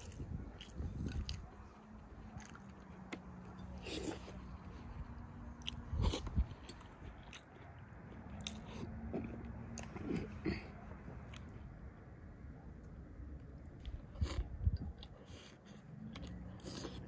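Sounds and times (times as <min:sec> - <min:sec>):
person chewing food: 0:00.0 - 0:11.7, 0:13.4 - 0:17.0.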